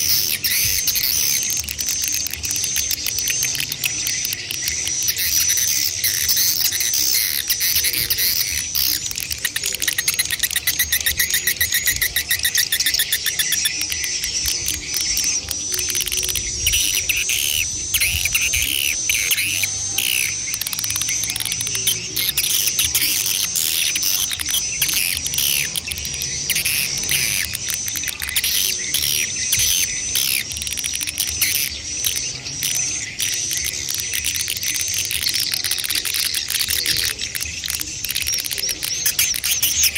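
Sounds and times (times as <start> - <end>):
fast pulsing trill: 0.0 - 39.9
swiftlets chirping: 0.0 - 39.9.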